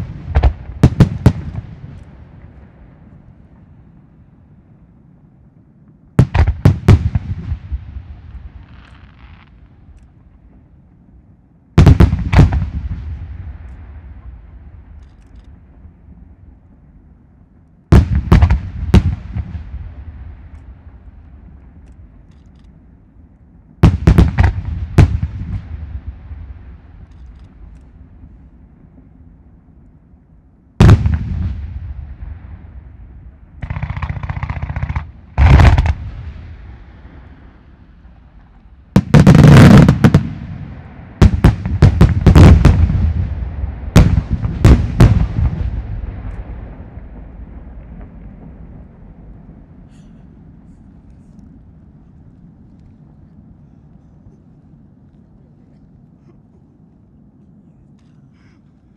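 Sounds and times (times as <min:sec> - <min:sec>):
rolling echo: 0:00.0 - 0:55.9.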